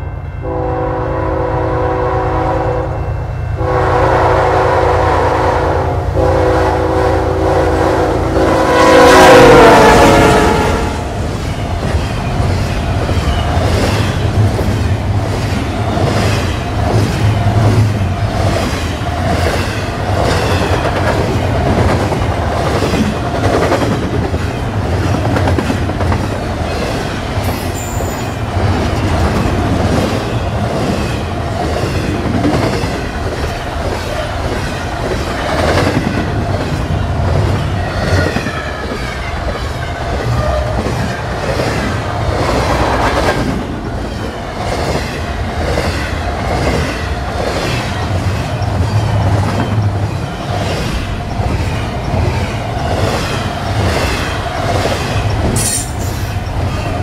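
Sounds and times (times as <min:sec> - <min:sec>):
low train rumble: 0:00.0 - 0:57.0.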